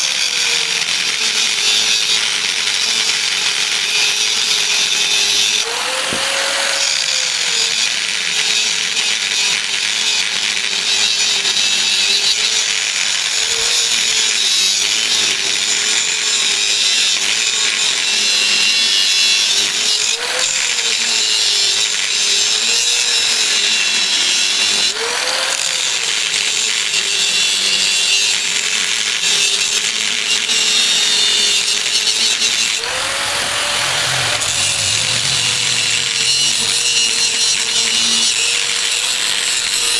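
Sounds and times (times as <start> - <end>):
angle grinder cutting metal: 0.0 - 39.9.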